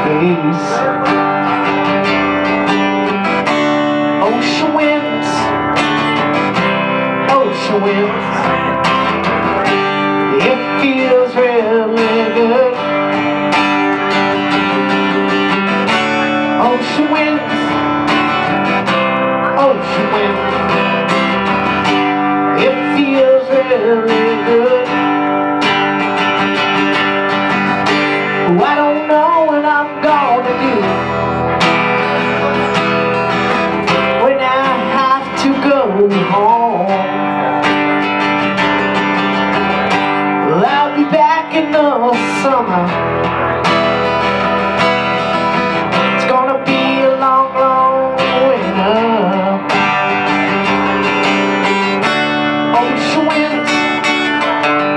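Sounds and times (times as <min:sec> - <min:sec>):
acoustic guitar strumming: 0:00.0 - 0:54.9
bending guitar melody line: 0:00.0 - 0:54.9.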